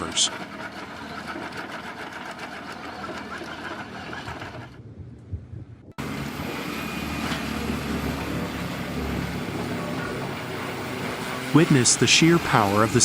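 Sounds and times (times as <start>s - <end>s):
loud machine with low hum: 0.0s - 4.8s, 6.0s - 13.0s
wood-grinding machinery running: 0.0s - 4.8s, 6.0s - 13.0s.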